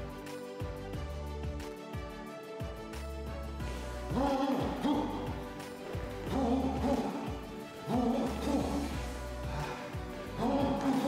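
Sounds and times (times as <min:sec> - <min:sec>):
workout background music: 0:00.0 - 0:11.0.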